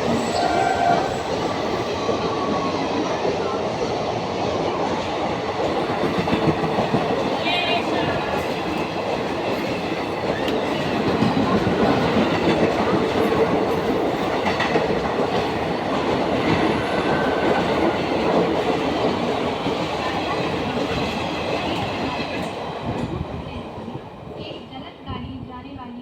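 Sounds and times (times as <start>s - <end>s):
train wheels clattering on rails: 0.0s - 25.5s.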